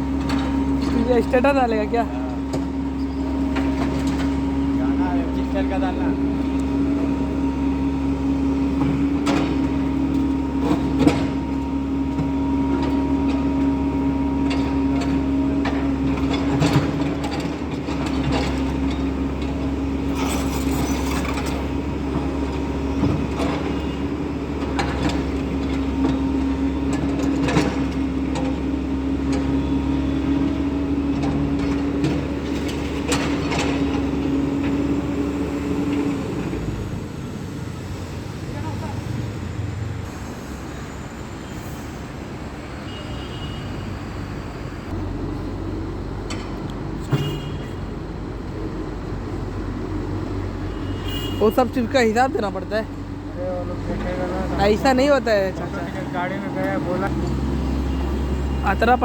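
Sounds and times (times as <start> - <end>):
excavator diesel engine running: 0.0 - 43.4, 44.0 - 59.0.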